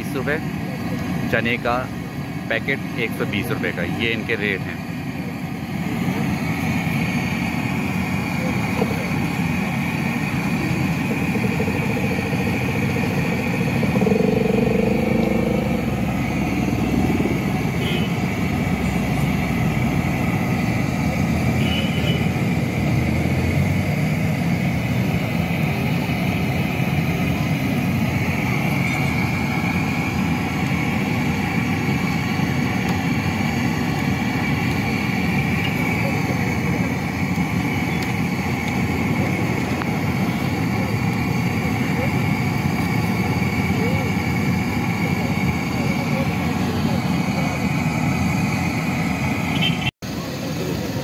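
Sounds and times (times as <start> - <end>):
oil hissing while deep-frying: 0.0 - 51.0
street traffic: 0.0 - 51.0.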